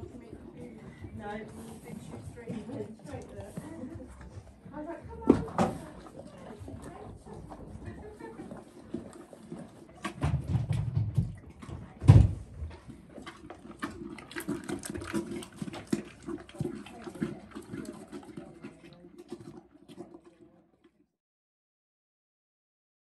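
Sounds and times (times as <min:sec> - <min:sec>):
pony crunching and chewing: 0:00.0 - 0:21.0.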